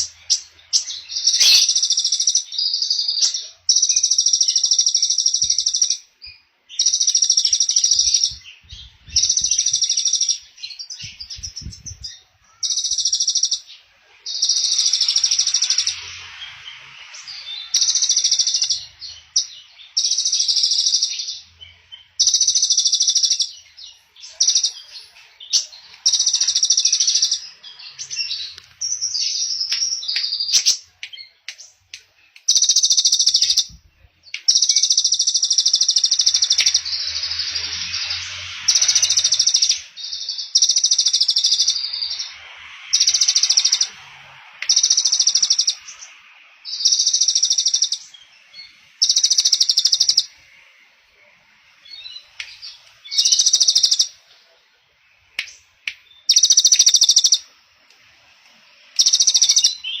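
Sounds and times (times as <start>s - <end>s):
songbird singing rapid trills: 0.0s - 50.8s, 51.8s - 54.4s, 55.0s - 57.6s, 58.6s - 60.0s
faint bird chirping: 0.0s - 60.0s.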